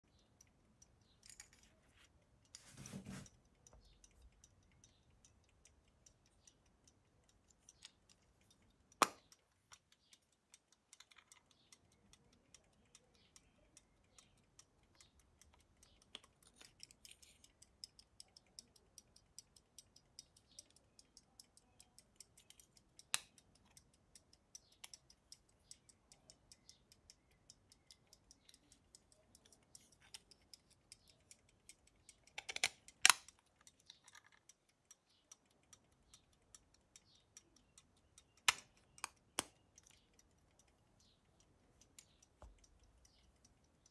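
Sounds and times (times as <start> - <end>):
pocket watch ticking: 0.0 - 43.9.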